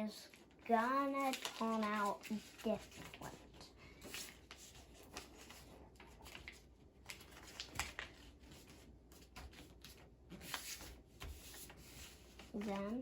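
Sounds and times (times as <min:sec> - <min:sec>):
paper rustling and crinkling: 0:00.1 - 0:13.0.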